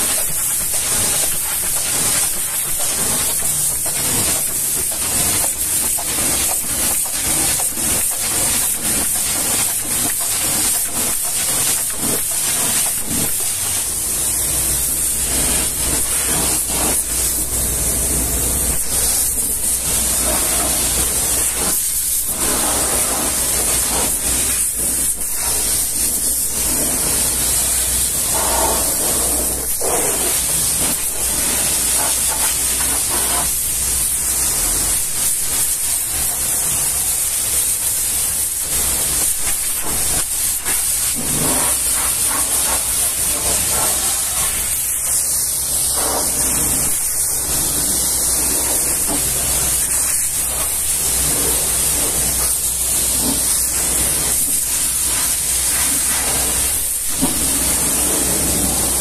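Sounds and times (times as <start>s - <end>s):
pressure washer jet hissing: 0.0s - 59.0s.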